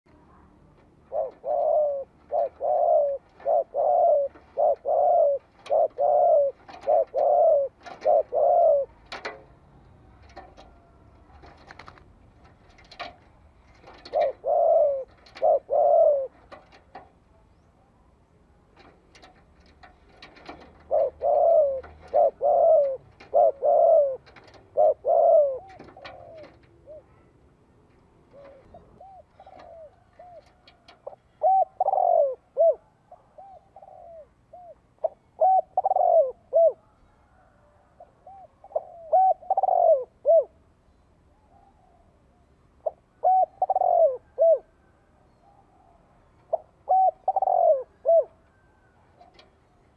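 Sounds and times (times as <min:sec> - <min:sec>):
dove cooing: 0:00.4 - 0:17.7, 0:18.8 - 0:27.4, 0:28.1 - 0:40.6, 0:41.4 - 0:49.9.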